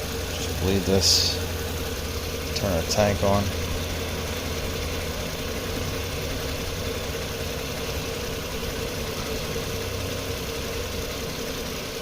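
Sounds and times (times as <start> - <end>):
vacuum pump motor hum: 0.0 - 12.0.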